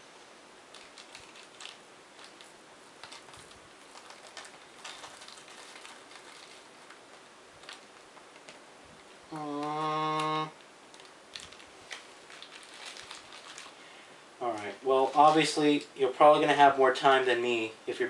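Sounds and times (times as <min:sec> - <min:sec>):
low steady hiss: 0:00.0 - 0:18.0.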